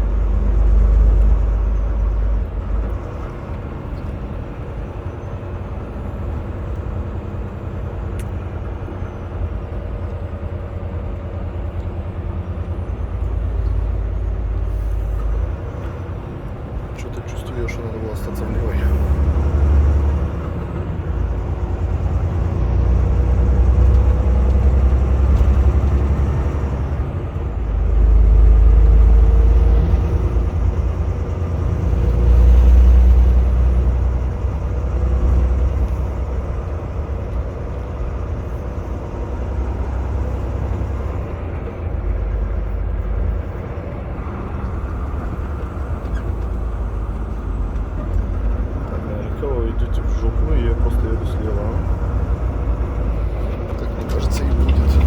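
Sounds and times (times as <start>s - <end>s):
road noise: 0.0s - 55.0s
truck diesel engine rumble: 0.0s - 55.0s.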